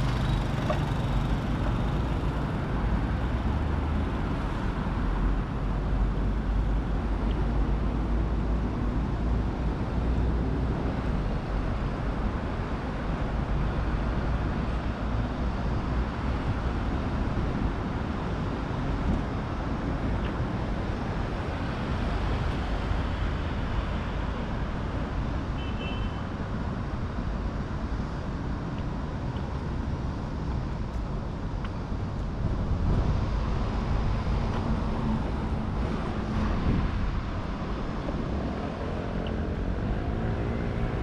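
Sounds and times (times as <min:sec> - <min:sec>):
city road traffic rumble: 0:00.0 - 0:41.0.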